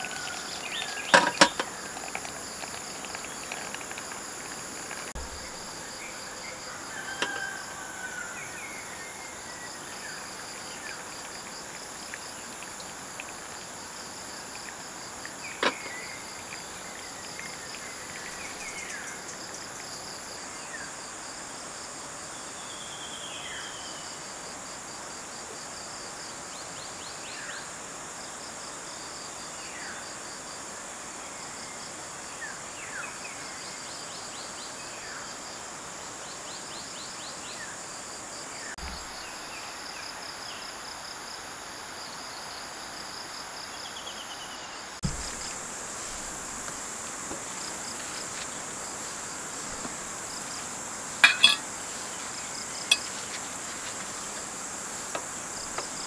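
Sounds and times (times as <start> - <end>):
background hiss: 0.0 - 56.0
insects trilling: 0.0 - 56.0.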